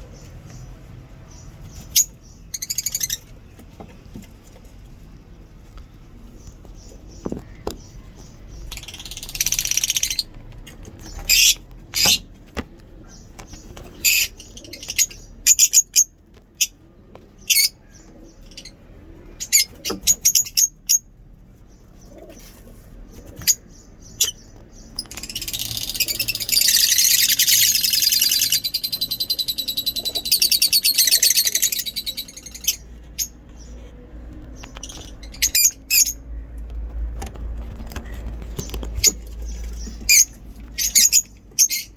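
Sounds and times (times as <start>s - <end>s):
lovebirds chirping: 0.0s - 36.6s, 37.8s - 41.9s
lovebirds chattering: 0.0s - 36.7s, 37.7s - 41.9s.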